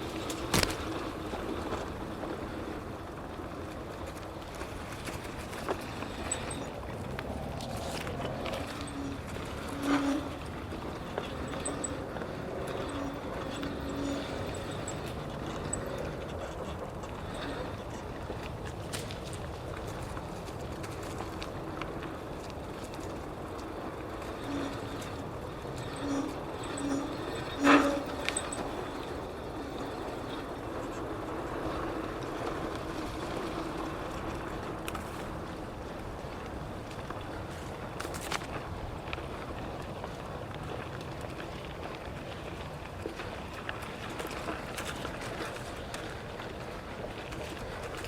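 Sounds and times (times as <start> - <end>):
bicycle tyre and road noise: 0.0 - 48.0
faint constant hum: 0.0 - 48.0
light rattling and clicks: 0.0 - 48.0.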